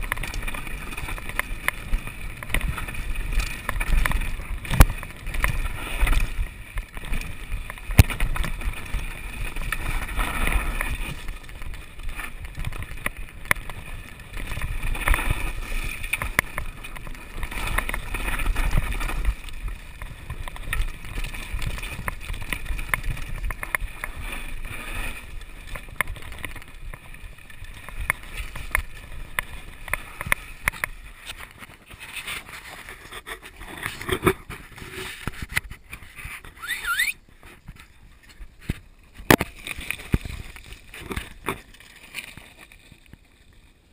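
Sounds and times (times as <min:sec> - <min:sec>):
bike knocking and rattling: 0:00.0 - 0:43.9
tyres on loose gravel: 0:00.0 - 0:43.9.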